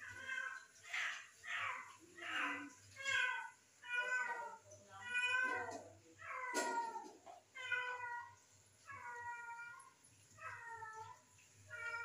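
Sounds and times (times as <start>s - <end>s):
cat meowing: 0.1s - 12.0s.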